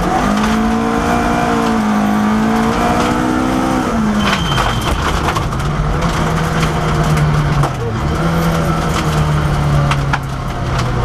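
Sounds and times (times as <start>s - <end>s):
gravel road noise: 0.0s - 11.0s
rally car engine at full revs: 0.0s - 11.0s.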